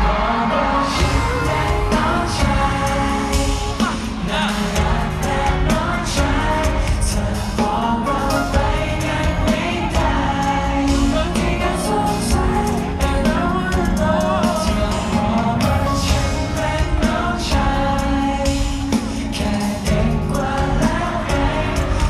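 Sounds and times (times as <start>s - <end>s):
man singing into microphone: 0.0s - 22.0s
pop backing track with beat: 0.0s - 22.0s.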